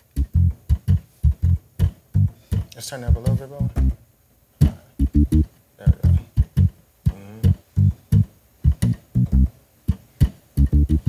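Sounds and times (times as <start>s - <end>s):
organ bass line: 0.0s - 4.0s, 4.6s - 11.0s.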